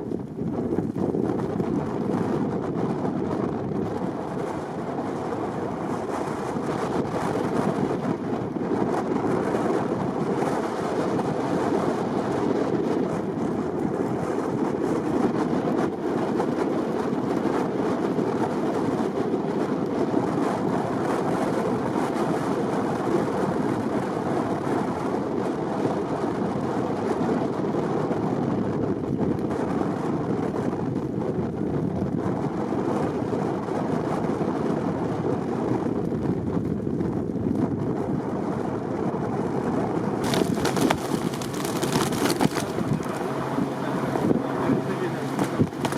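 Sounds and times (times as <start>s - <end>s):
strong wind on microphone: 0.0s - 45.9s.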